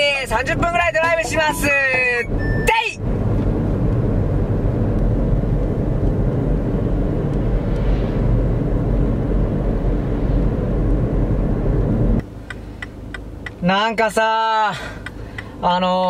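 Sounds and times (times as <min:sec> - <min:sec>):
car engine and tyre drone: 0:00.0 - 0:15.8.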